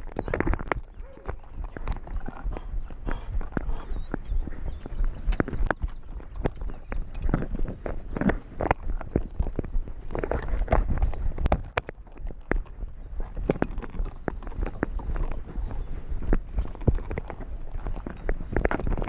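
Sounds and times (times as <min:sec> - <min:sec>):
dog footfalls clicking: 0:00.0 - 0:19.0
low rumble: 0:00.0 - 0:19.0.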